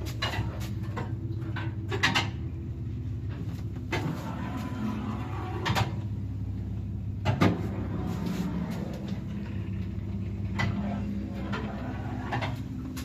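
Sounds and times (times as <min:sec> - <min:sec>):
lift humming: 0:00.0 - 0:13.0.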